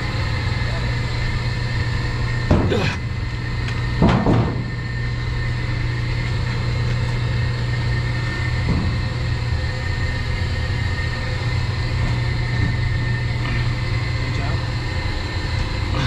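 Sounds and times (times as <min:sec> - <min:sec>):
heavy pump motor handling noises: 0:00.0 - 0:16.0
machinery humming: 0:00.0 - 0:16.0.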